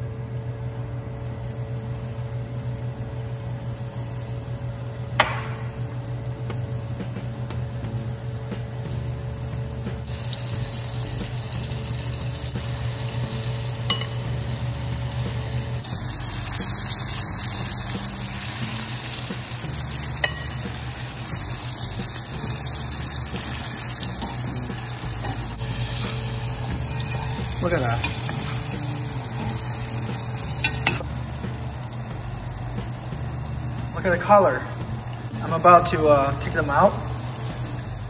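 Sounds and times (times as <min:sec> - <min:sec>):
food sizzling in oil: 0:01.2 - 0:38.0.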